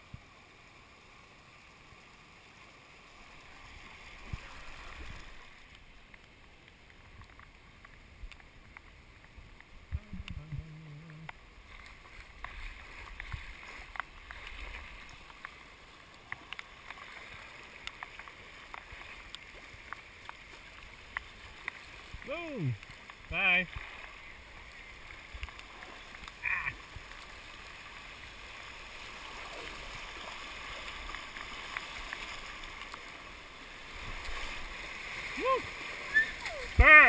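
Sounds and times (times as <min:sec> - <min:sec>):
creek rapids rushing over rocks: 0:00.4 - 0:09.9, 0:10.8 - 0:37.0.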